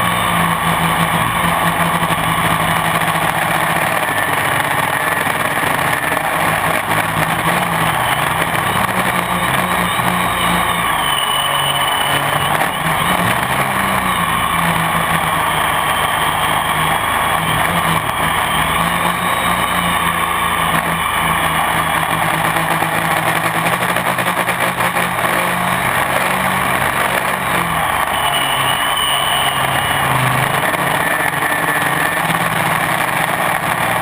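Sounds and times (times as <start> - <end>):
drone motors buzzing in flight: 0.0 - 34.0.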